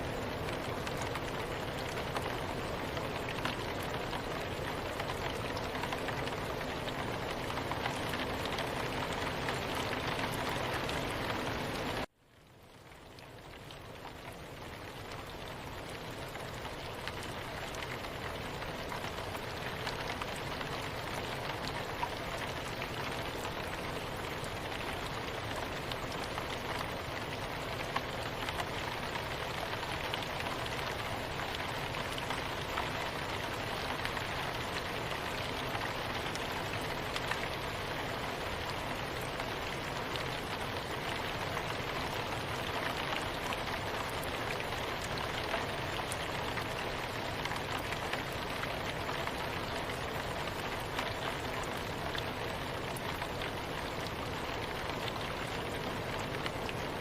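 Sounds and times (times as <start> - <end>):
soft rain pattering: 0.0 - 57.0.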